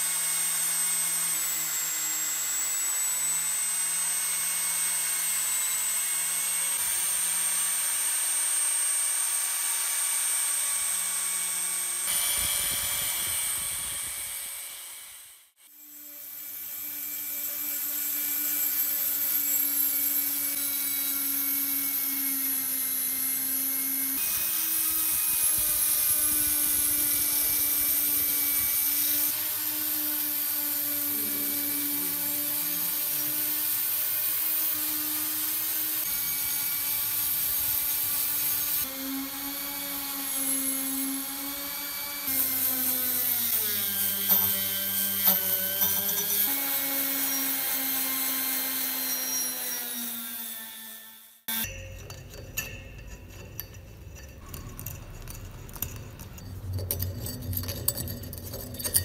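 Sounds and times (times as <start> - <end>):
electric power tool whining: 0.0 - 51.7.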